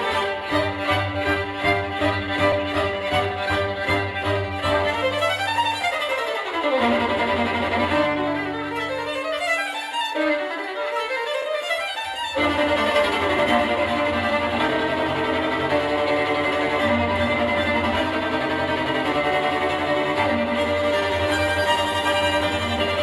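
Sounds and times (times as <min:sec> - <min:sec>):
violin led string music: 0:00.0 - 0:23.0.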